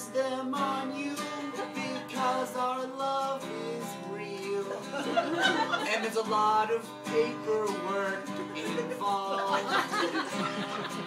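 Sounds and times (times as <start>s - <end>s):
man singing: 0.0s - 10.2s
acoustic guitar strumming: 0.0s - 11.0s.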